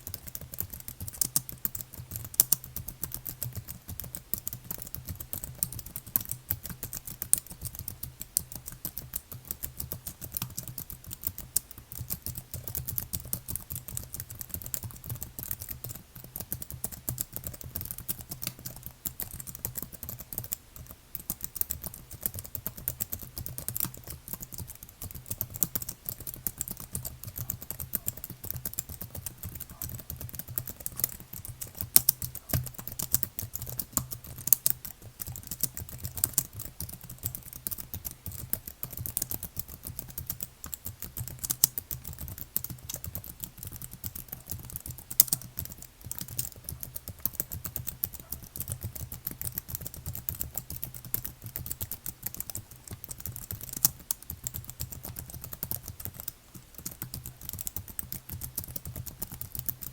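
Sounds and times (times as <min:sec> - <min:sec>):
fast typing on keyboard: 0:00.0 - 0:59.9.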